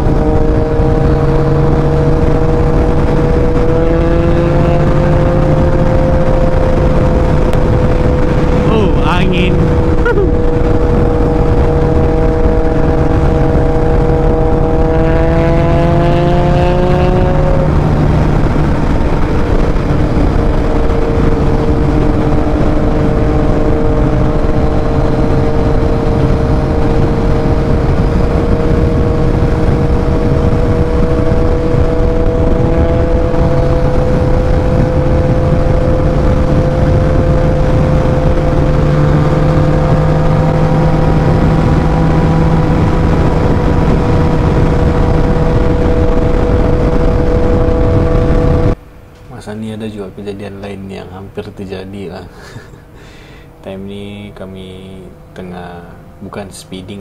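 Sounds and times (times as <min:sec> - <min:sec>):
motorcycle engine: 0:00.0 - 0:57.0
wind rumble on microphone: 0:00.0 - 0:57.0.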